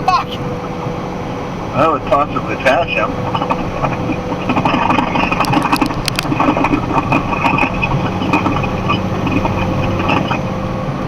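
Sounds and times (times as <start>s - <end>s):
truck engine and road hum: 0.0s - 11.0s.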